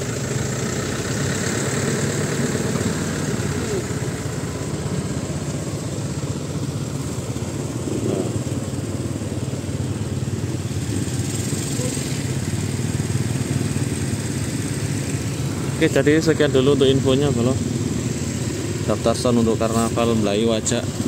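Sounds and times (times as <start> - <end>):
truck and motorcycle engines: 0.0 - 21.0.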